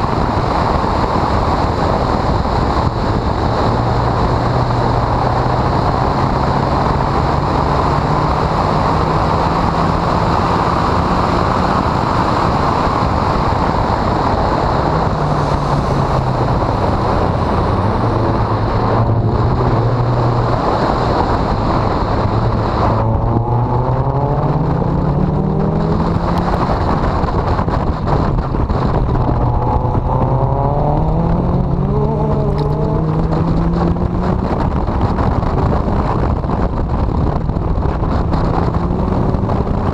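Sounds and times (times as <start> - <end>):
car engine at full throttle: 0.0 - 39.9
loud rushing noise: 0.0 - 39.9.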